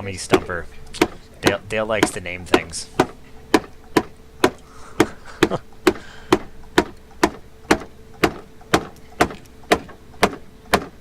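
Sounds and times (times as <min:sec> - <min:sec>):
sledgehammer striking car metal: 0:00.3 - 0:11.0.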